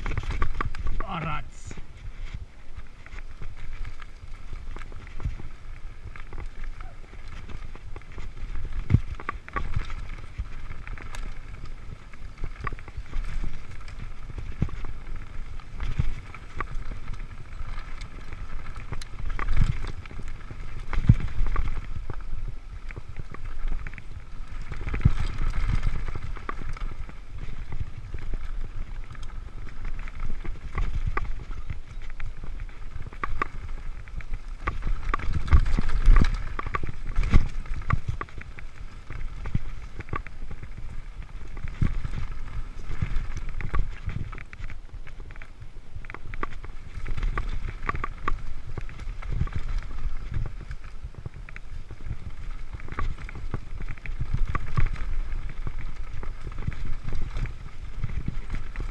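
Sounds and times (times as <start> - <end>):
bike rattles and knocks: 0.0 - 58.9
bike tyres over dirt and roots: 0.0 - 58.9
wind rumbling on microphone: 0.0 - 58.9.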